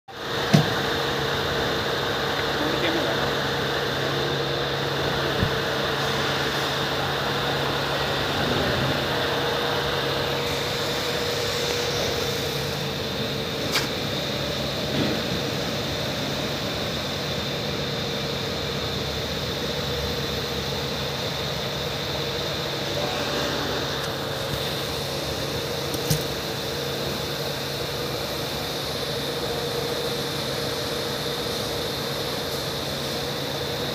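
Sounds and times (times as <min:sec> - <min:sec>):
machine hum with fan noise: 0:00.1 - 0:33.9.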